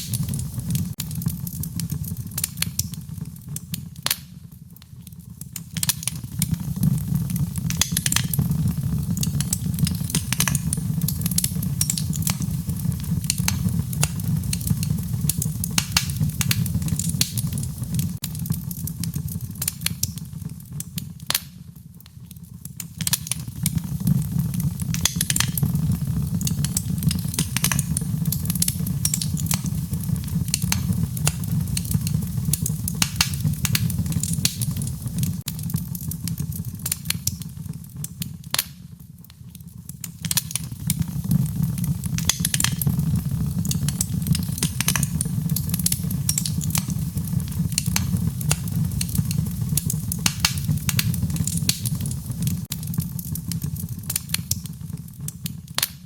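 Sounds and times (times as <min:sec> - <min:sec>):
fire crackles and pops: 0:00.0 - 0:56.0
fire low rumble: 0:00.0 - 0:56.0.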